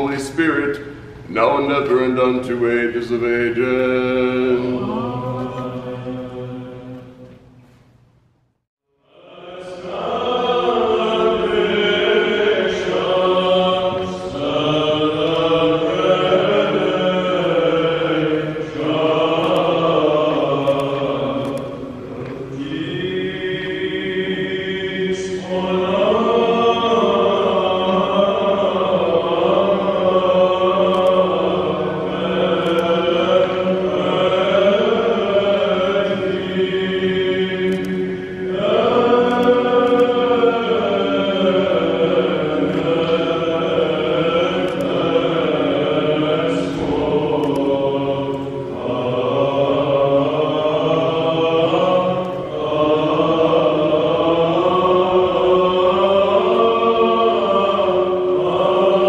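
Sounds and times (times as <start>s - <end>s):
choir chanting a hymn: 0.0s - 7.6s, 8.9s - 59.0s.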